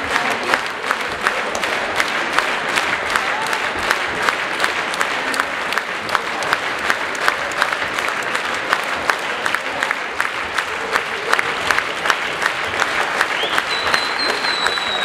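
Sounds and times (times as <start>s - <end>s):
audience applauding: 0.0s - 15.0s
rhythmic clapping: 0.0s - 15.0s.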